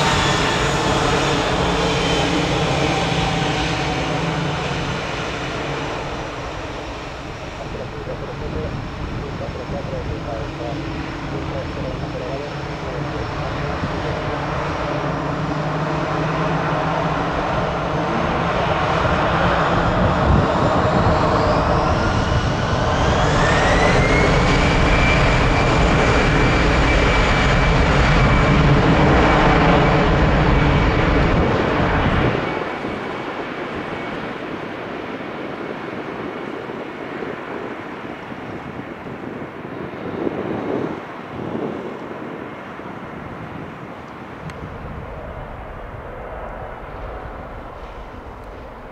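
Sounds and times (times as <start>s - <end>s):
heavy jet engine rumble: 0.0s - 48.9s
jet engine whine: 0.0s - 48.9s.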